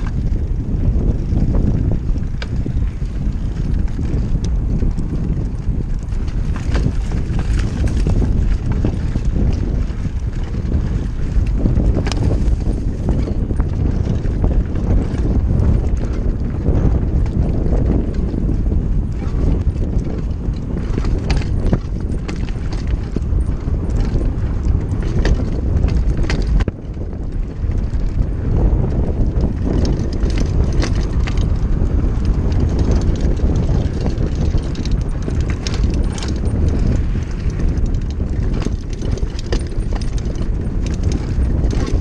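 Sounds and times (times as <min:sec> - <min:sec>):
bike chain and frame rattling: 0:00.0 - 0:42.0
rumble of bike tyres and air: 0:00.0 - 0:42.0.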